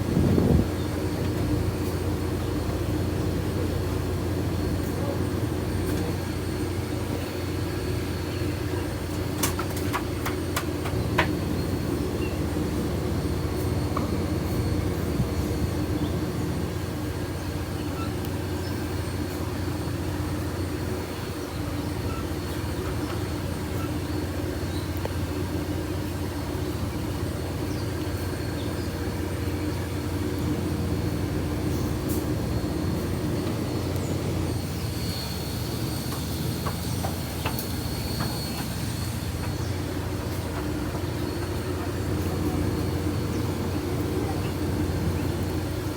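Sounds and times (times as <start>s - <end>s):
train running with low hum: 0.0s - 45.9s.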